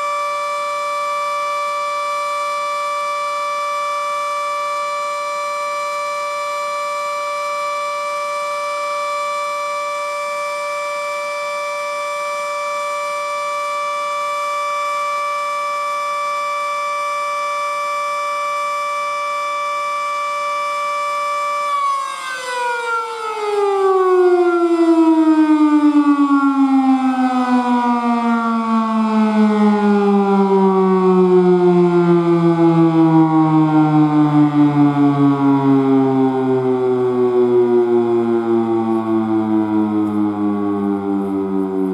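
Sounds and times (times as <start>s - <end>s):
outdoor warning siren: 0.0s - 41.9s.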